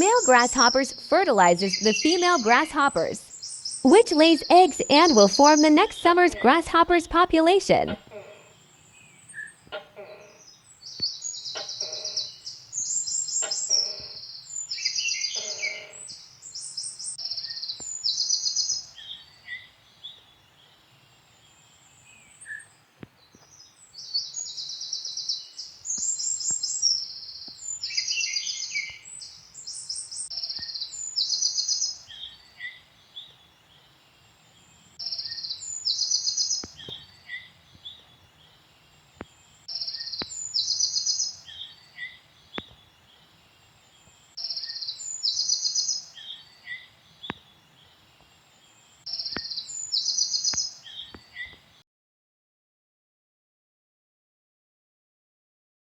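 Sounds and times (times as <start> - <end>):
songbirds chirping in trills: 0.0 - 51.8.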